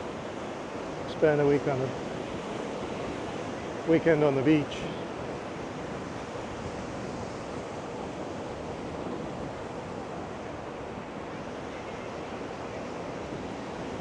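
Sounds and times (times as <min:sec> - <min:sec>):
ocean surf on sandy beach: 0:00.0 - 0:14.0.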